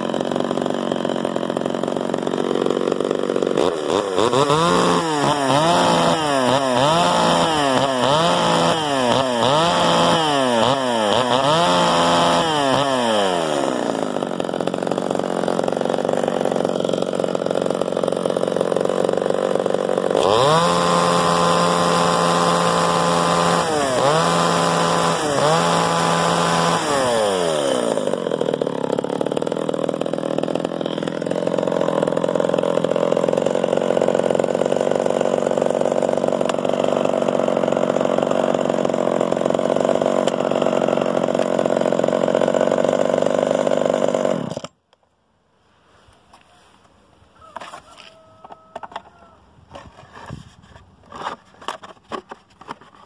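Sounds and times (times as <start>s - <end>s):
chainsaw engine revving and idling: 0.0s - 44.8s.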